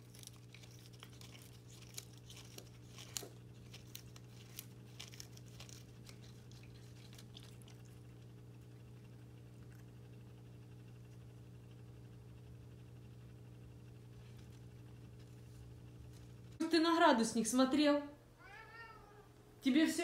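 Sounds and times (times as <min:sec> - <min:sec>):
cat chewing leaves: 0:00.0 - 0:16.6
steady low hum: 0:00.0 - 0:20.0.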